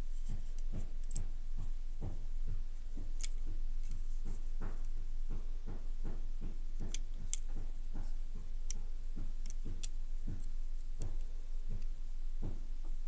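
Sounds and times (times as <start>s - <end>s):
soft regular ticking: 0.2s - 13.0s.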